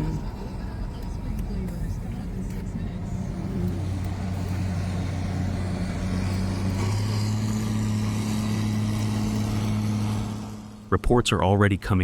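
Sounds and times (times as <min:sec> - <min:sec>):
vehicle engine running: 0:00.0 - 0:11.1.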